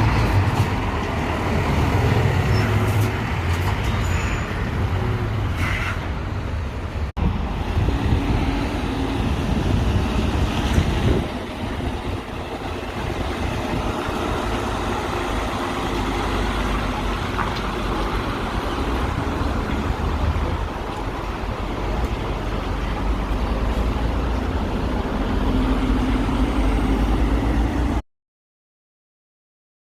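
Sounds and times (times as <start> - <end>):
road traffic with lorries: 0.0 - 28.0.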